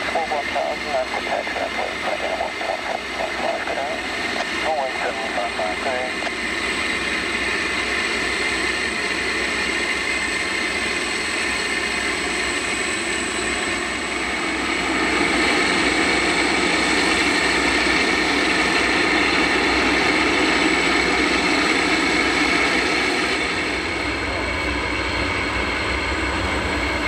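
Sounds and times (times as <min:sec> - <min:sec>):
jet turbine whine: 0:00.0 - 0:27.0.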